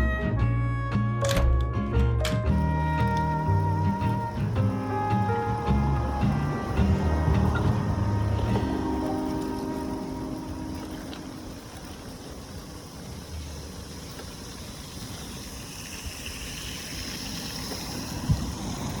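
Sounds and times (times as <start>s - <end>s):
outdoor rumble and hiss: 2.5s - 19.0s.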